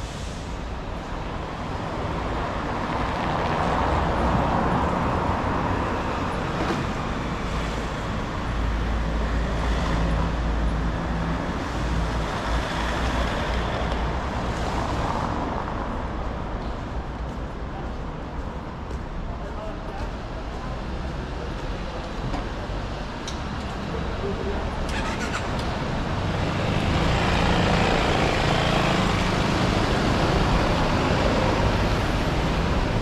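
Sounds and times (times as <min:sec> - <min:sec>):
vehicles passing close by: 0:00.0 - 0:33.0.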